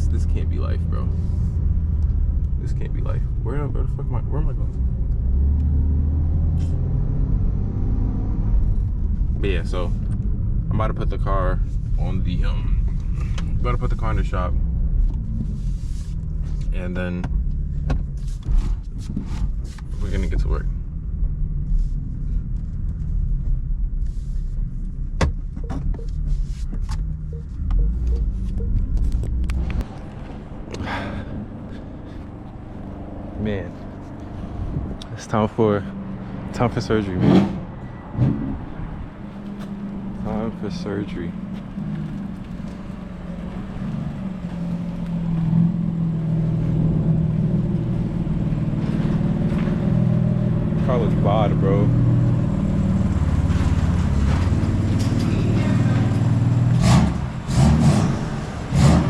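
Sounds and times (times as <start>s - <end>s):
car engine low rumble: 0.0s - 59.0s.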